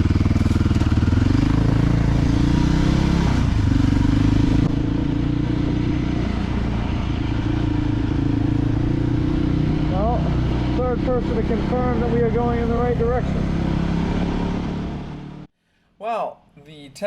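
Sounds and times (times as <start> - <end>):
dirt bike engine running: 0.0 - 15.4.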